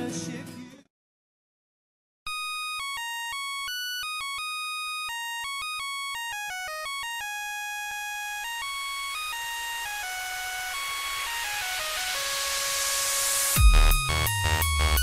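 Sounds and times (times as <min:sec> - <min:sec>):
synthesized beeping melody: 0:02.3 - 0:15.0.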